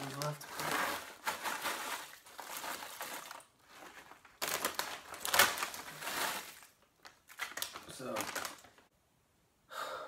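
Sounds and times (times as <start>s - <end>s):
chips spilling onto towel: 0.0s - 8.6s
foil chip bag crinkling: 0.0s - 8.9s.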